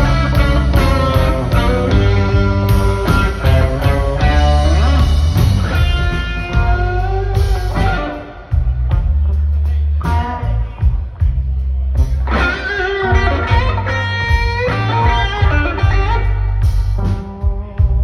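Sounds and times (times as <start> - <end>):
electric guitar lead: 0.0 - 11.3, 12.0 - 18.0
blues band playing: 0.0 - 18.0.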